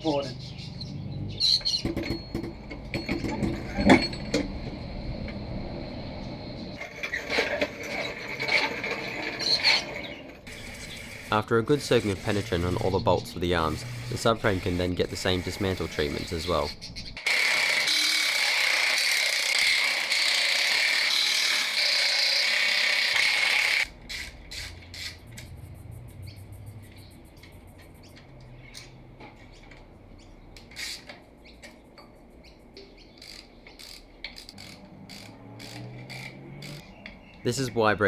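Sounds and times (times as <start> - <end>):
hand tools clicking and ratcheting: 1.6 - 4.7, 6.8 - 29.9, 30.5 - 37.2.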